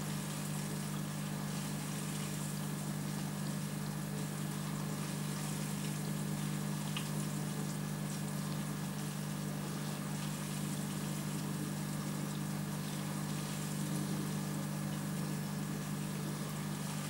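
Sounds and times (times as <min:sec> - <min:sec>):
aquarium filter pump humming: 0:00.0 - 0:17.0.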